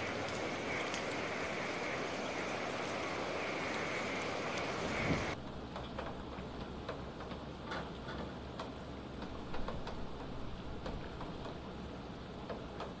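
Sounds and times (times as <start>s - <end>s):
hurricane wind: 0.0s - 13.0s
raindrops striking: 0.0s - 13.0s.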